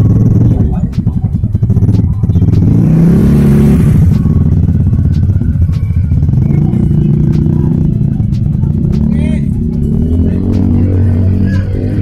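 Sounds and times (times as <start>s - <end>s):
bass-heavy music through speaker: 0.0s - 12.0s.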